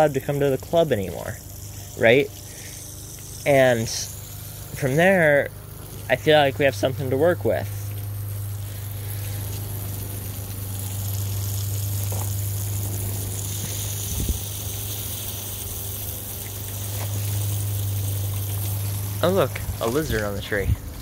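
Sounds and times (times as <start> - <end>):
steady low hum: 0.0 - 21.0
water spraying onto plants: 0.0 - 21.0.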